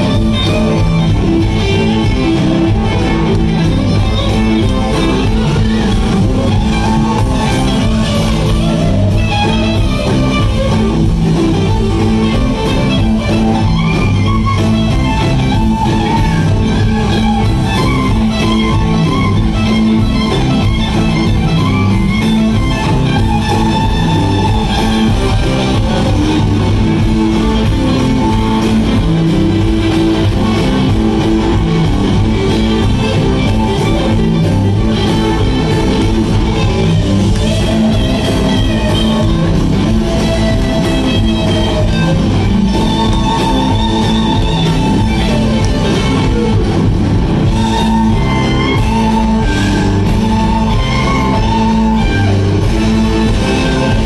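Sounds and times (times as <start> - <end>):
lead guitar bending notes: 0.0 - 54.0
live band playing instrumental: 0.0 - 54.0.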